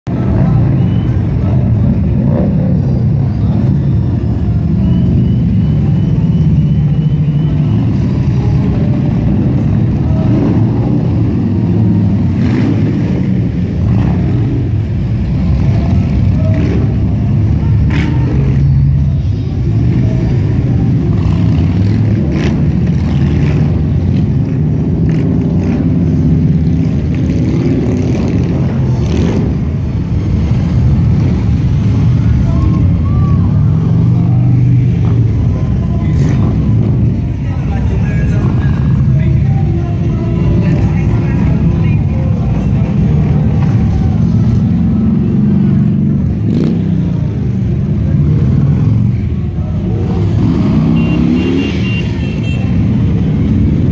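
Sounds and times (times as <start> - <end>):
motorcycles riding past: 0.1 - 53.9.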